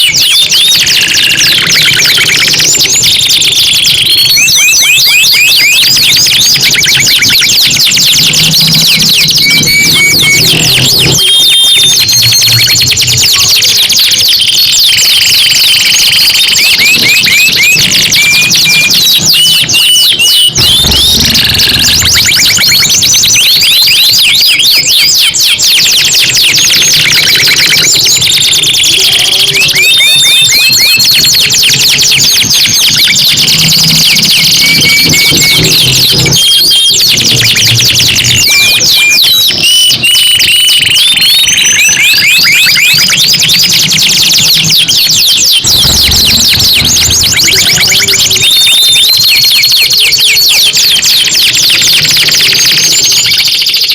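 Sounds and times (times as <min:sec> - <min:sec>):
canaries singing trills: 0:00.0 - 0:53.9.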